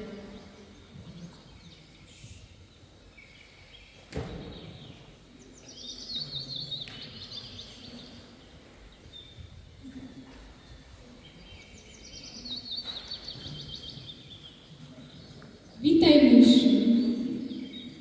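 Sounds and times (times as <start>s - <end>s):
background hiss: 0.0s - 18.0s
birds chirping: 0.0s - 18.0s.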